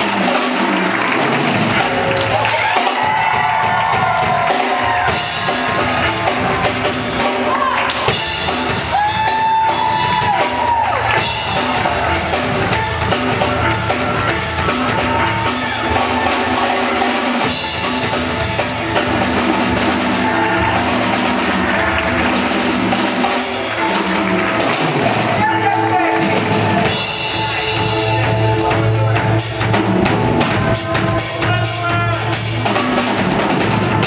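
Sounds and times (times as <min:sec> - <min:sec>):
steady drum beat: 0:00.0 - 0:34.0
steel pan orchestra playing: 0:00.0 - 0:34.0.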